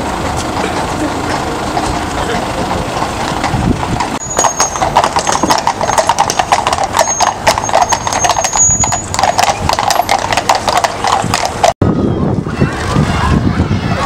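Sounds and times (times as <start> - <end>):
horse hooves on tarmac: 0.0 - 11.8.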